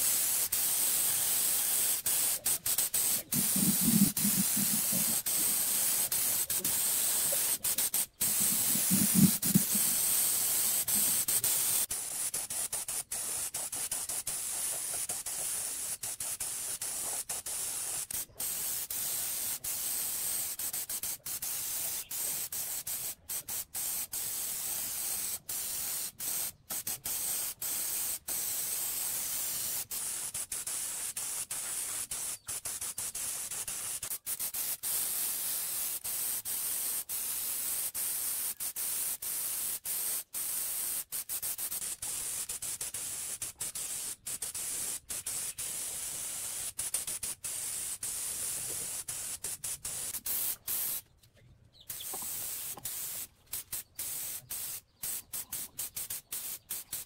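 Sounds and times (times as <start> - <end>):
paint spray gun hissing: 0.0 - 51.0, 51.9 - 57.0.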